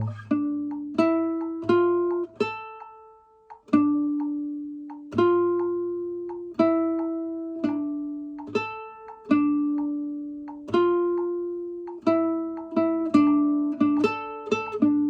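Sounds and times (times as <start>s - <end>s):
classical guitar plucked notes: 0.0s - 15.0s.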